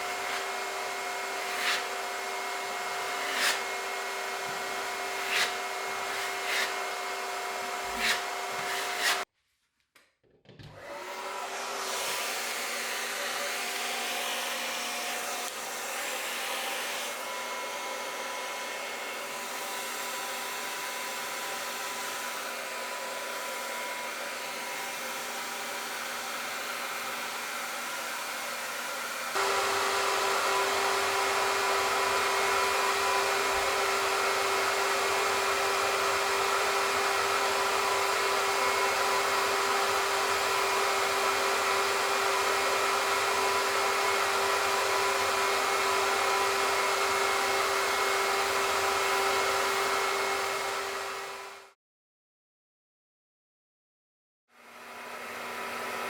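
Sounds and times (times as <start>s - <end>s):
electric blower motor humming: 0.0s - 9.2s, 10.7s - 51.7s.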